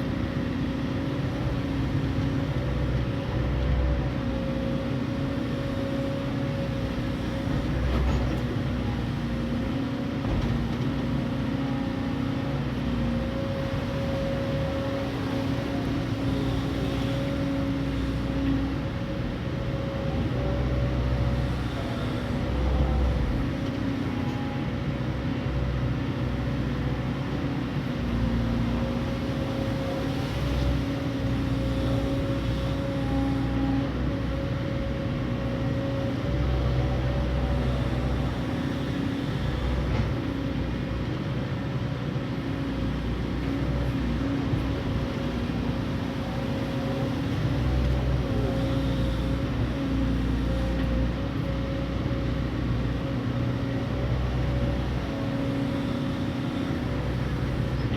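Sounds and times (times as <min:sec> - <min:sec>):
excavator engine whine: 0:00.0 - 0:57.9.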